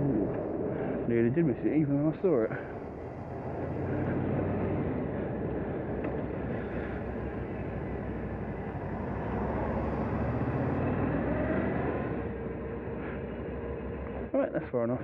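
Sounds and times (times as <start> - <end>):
motorcycle engine running: 0.0 - 14.3
road and wind noise: 0.0 - 15.0.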